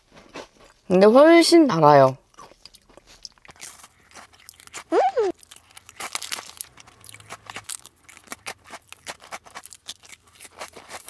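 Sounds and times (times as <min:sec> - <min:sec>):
chewing crisp biscuit: 0:02.1 - 0:11.0.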